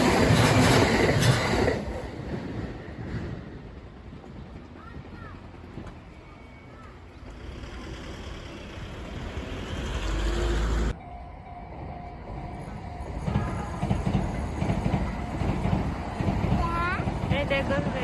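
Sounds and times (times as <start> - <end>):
electric train: 0.0 - 18.0.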